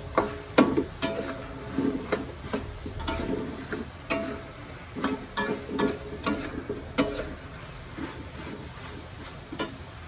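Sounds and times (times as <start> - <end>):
metal spatula clanking on wok: 0.0 - 7.6, 9.4 - 10.0.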